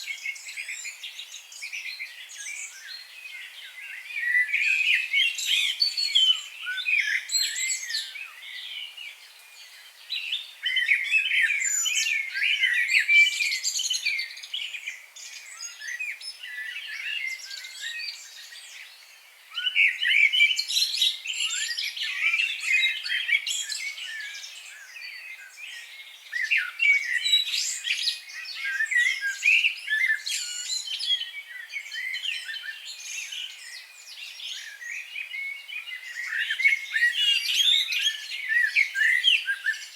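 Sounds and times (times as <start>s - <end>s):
chorus of birds twittering: 0.0s - 39.9s.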